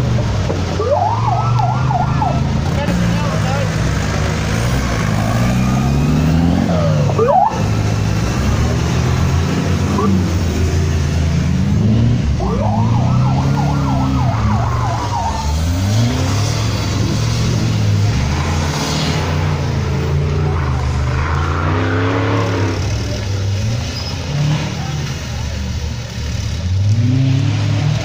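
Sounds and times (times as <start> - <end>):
engine revving hard: 2.6 - 25.0.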